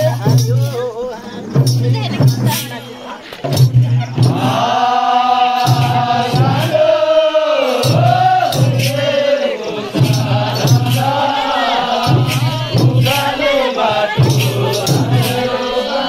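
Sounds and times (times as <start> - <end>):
group singing folk song: 0.0 - 16.0
hand drum beat: 0.0 - 16.0.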